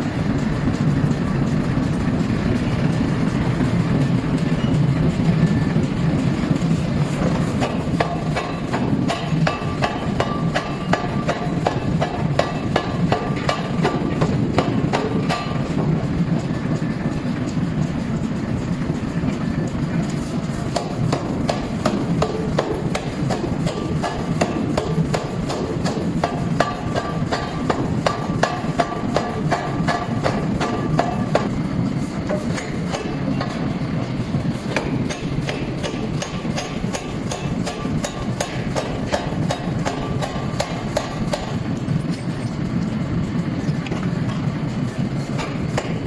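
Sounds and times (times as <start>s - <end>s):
power hammer striking hot steel: 0.0s - 18.7s, 19.3s - 46.0s
low rumble: 0.0s - 46.0s.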